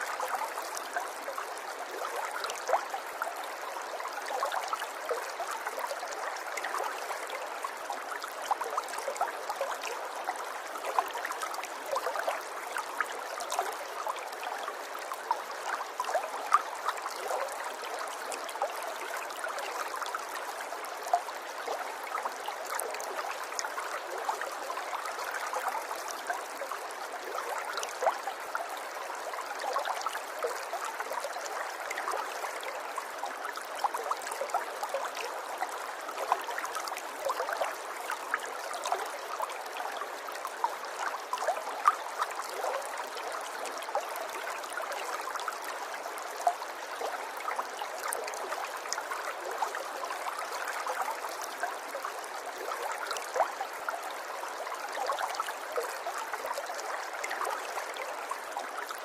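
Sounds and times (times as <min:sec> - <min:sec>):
river water babbling over stones: 0:00.0 - 0:59.0.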